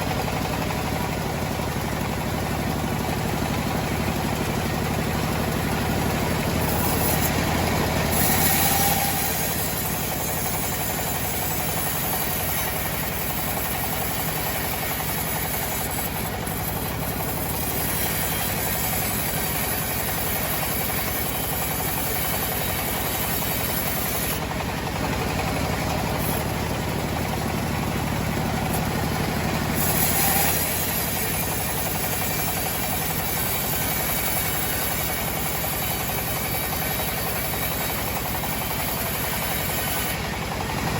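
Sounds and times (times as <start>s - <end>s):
sawmill engine chugging: 0.0s - 40.9s.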